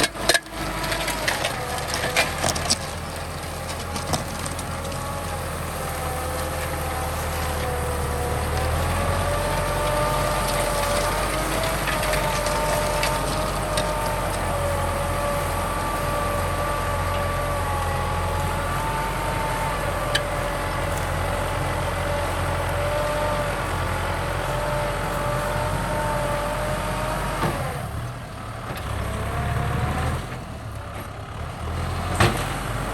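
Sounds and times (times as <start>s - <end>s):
engine whine: 0.0s - 32.9s
tractor diesel engine running: 0.0s - 32.9s.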